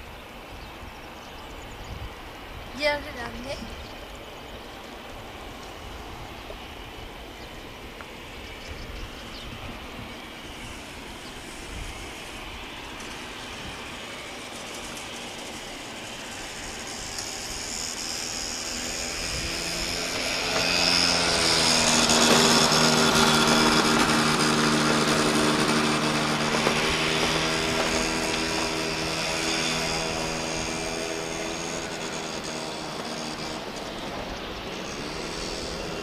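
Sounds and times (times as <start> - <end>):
jet engines whining: 0.0 - 36.0
low hum: 0.0 - 36.0.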